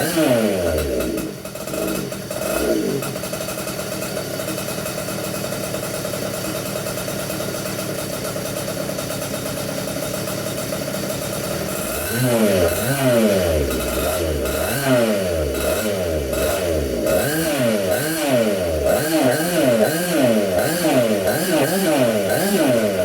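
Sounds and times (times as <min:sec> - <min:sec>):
two-stroke kart engine: 0:00.0 - 0:23.0.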